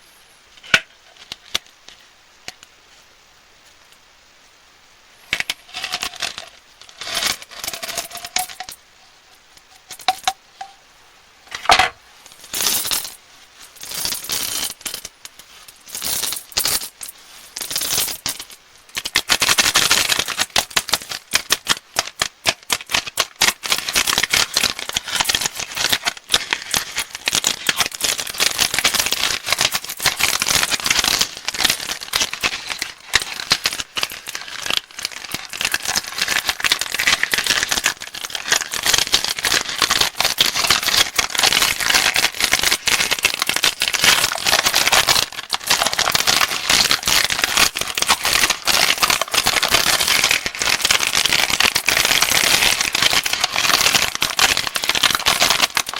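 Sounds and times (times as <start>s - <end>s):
plastic wrappers crinkling: 5.3s - 8.8s, 9.6s - 10.8s, 11.5s - 55.9s.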